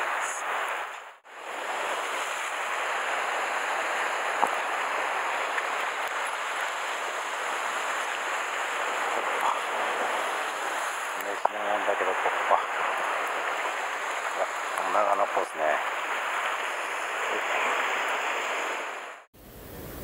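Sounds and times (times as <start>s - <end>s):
surf breaking on rocky shore: 0.0s - 19.3s.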